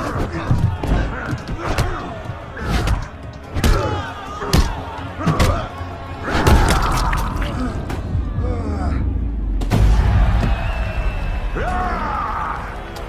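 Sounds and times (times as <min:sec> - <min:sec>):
film music: 0:00.0 - 0:13.0.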